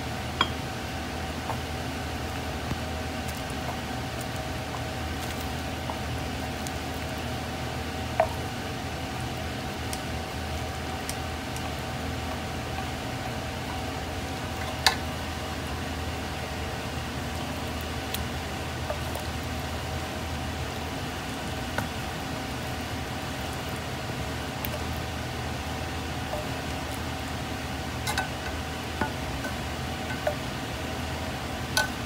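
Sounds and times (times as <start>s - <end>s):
appliance hum with high whine: 0.0s - 32.0s.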